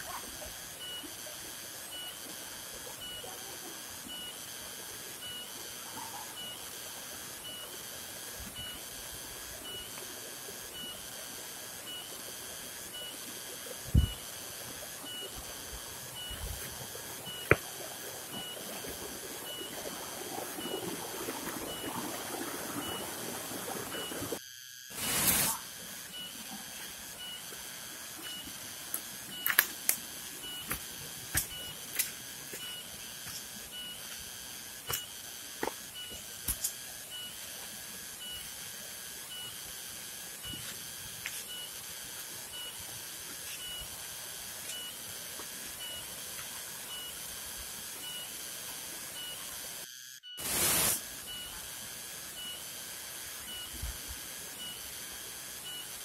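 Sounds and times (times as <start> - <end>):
insects droning: 0.0 - 56.0
even hiss: 8.3 - 49.6, 50.4 - 56.0.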